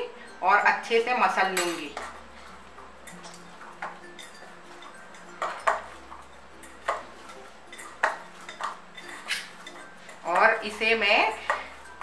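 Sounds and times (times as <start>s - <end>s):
dough being kneaded: 1.3s - 12.0s.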